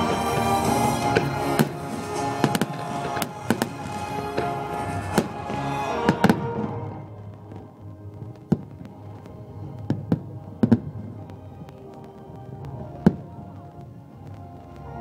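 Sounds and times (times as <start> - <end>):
firework shells bursting: 0.0 - 15.0
sustained music: 0.0 - 15.0.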